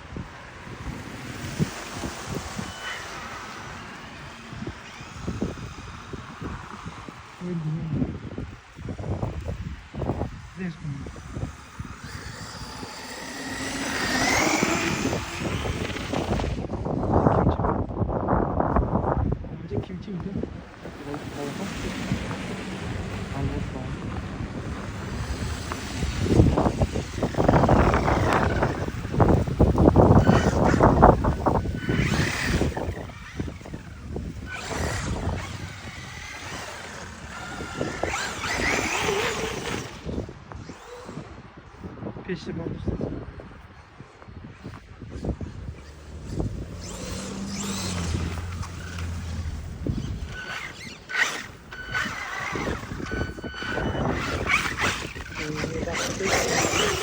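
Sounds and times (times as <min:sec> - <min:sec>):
electric motor whining: 0:00.0 - 0:19.1, 0:19.7 - 0:41.8, 0:44.6 - 0:57.0
rough rumbling noise: 0:00.0 - 0:41.1, 0:45.0 - 0:57.0.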